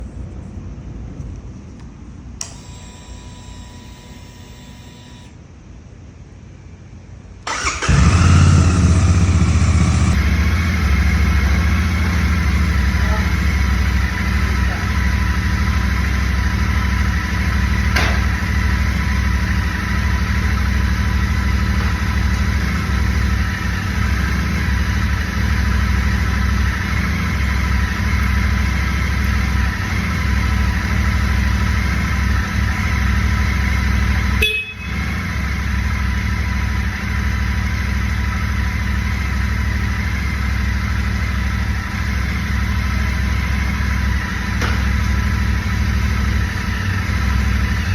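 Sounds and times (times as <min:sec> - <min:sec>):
motorcycle engine idling: 0:07.5 - 0:47.9.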